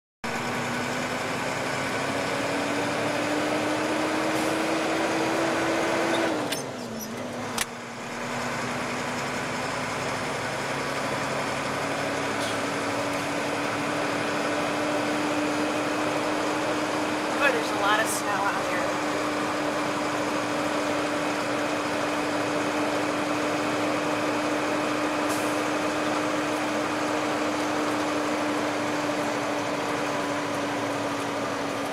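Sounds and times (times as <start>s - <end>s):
car engine and road noise: 0.2s - 31.9s.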